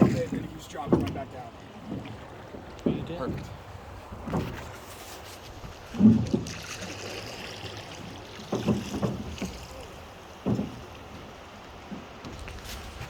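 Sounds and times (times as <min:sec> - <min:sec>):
low thumps of oars: 0:00.0 - 0:13.0
water running under boat hull: 0:00.0 - 0:13.0.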